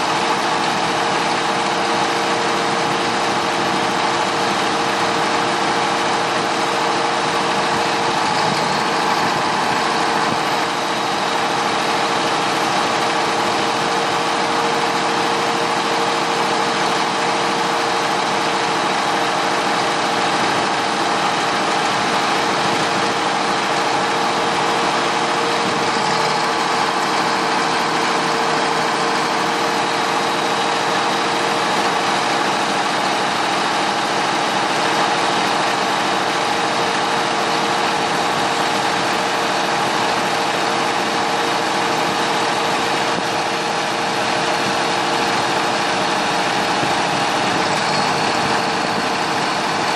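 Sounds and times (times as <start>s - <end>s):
locomotive engine idling: 0.0s - 49.9s.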